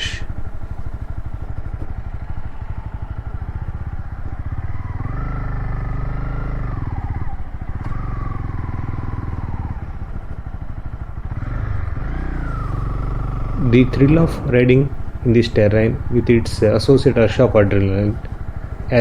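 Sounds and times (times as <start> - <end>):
motorcycle engine revving under load: 0.0 - 19.0.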